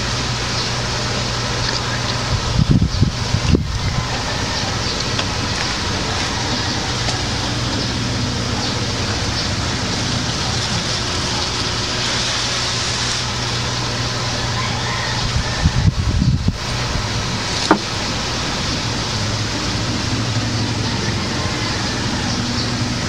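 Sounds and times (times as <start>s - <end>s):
low hum: 0.0s - 23.0s
even hiss: 4.5s - 23.0s.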